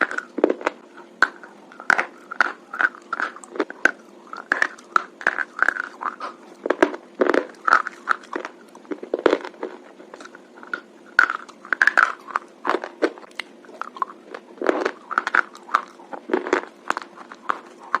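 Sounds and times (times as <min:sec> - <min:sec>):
crunchy bar being chewed: 0:00.0 - 0:18.0.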